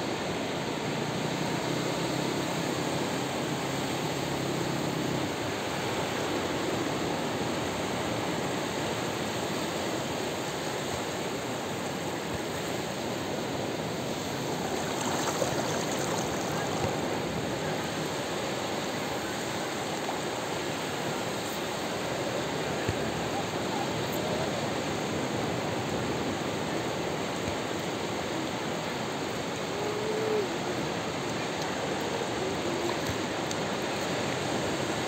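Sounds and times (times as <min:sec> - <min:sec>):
ocean surf breaking on beach: 0:00.0 - 0:35.0.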